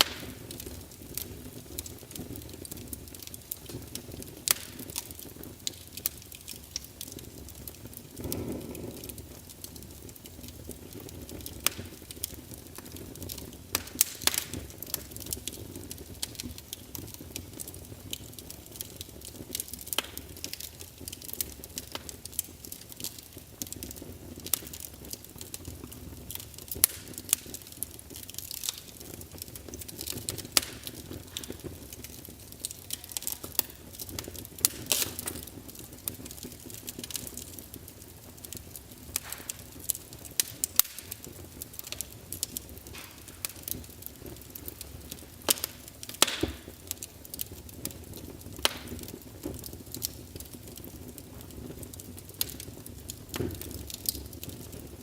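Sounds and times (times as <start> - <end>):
low rumble of flame: 0.0 - 55.0
wood fire crackling: 0.0 - 55.0.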